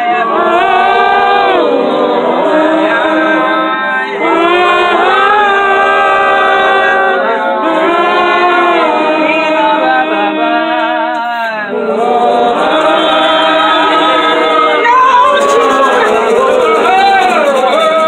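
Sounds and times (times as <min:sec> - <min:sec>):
congregation singing: 0:00.0 - 0:18.0.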